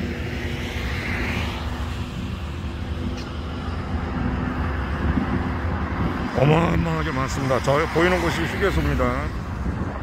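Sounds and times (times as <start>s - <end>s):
vehicle road noise: 0.0s - 10.0s.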